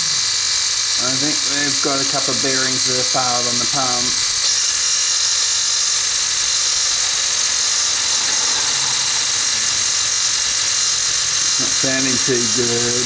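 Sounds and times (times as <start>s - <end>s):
electric water pump rattling: 0.0s - 13.0s.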